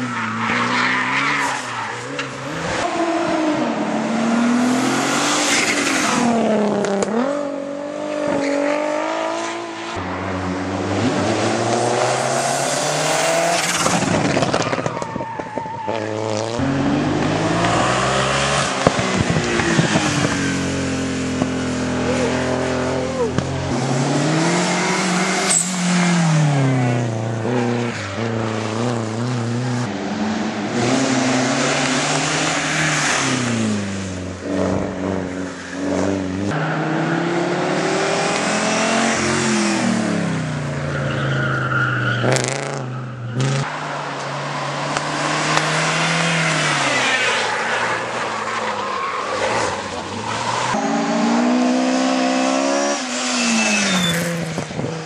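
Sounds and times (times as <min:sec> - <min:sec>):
racing car engines at full throttle: 0:00.0 - 0:55.0.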